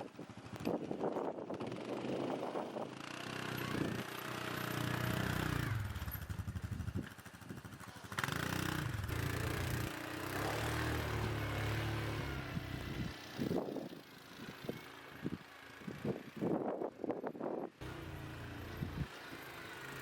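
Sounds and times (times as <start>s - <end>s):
atv engine revving: 0.3s - 16.6s, 17.8s - 20.0s.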